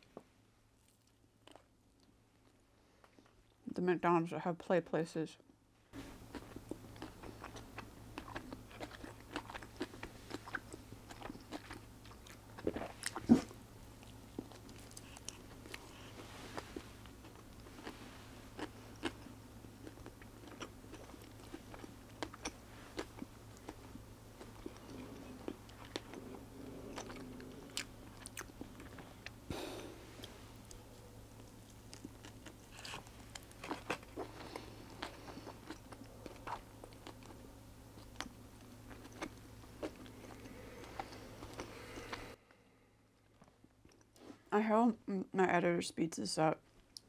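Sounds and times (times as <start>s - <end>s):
person chewing food: 0.8s - 3.6s, 6.0s - 42.4s, 43.2s - 44.4s.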